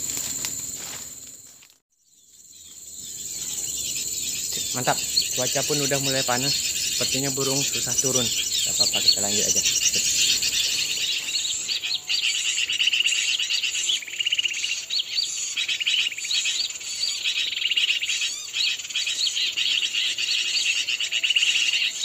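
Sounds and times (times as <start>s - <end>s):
high insect drone: 0.0s - 22.0s
birds chirping from speaker: 2.9s - 22.0s.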